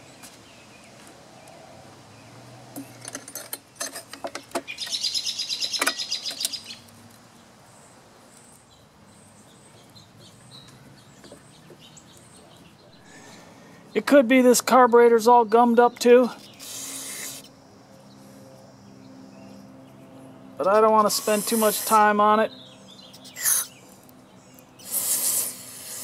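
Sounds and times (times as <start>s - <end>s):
bird chirping trill: 3.7s - 7.9s, 8.5s - 26.0s.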